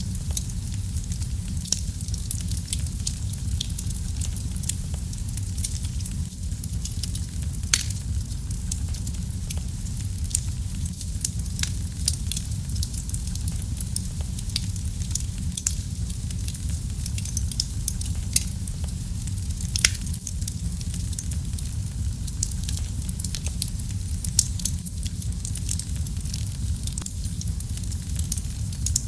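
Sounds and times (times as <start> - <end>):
fire crackling and popping: 0.0 - 29.0
low rumble of flames: 0.0 - 29.0.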